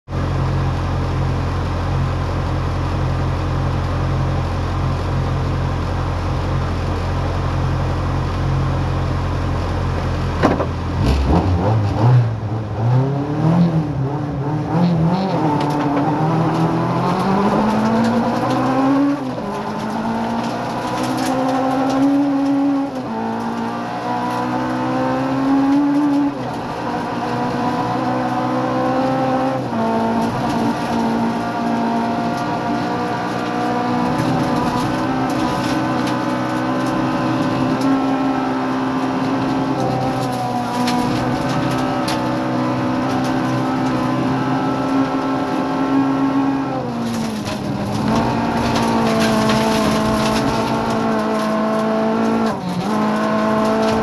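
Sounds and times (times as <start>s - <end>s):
rally car engine accelerating: 0.0s - 54.0s.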